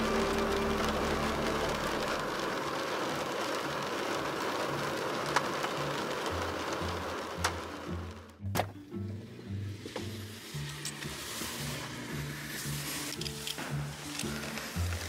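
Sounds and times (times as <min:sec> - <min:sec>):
rain on car windscreen and roof: 0:00.0 - 0:08.4, 0:09.8 - 0:15.0.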